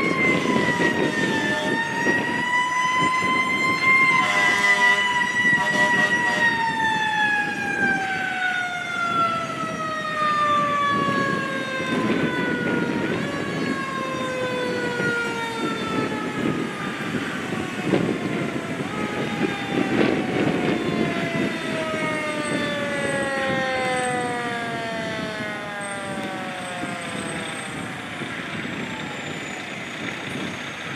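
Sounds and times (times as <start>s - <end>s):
fire engine siren winding down: 0.0s - 30.9s
traffic noise: 0.0s - 30.9s
truck engine: 0.0s - 30.9s.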